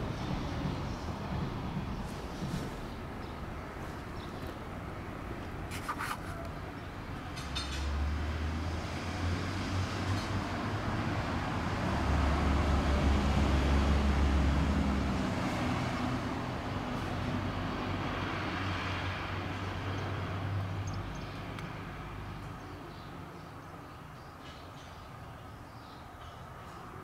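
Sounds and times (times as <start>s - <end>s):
passing vehicle rumble: 0.0s - 23.2s.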